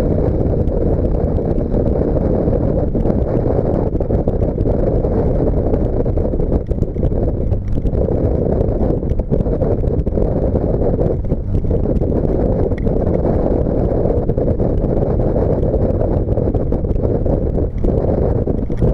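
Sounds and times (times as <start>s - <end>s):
car exhaust drone: 0.0s - 18.9s
wind on microphone: 0.0s - 18.9s.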